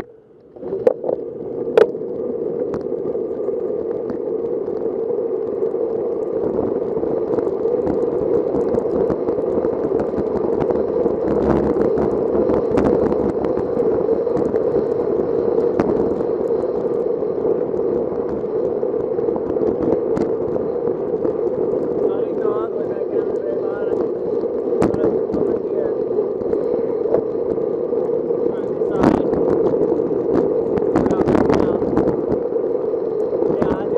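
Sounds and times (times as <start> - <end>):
bicycle tyre noise: 0.0 - 33.9
light crackles: 0.0 - 33.9
wind rushing: 3.8 - 33.9.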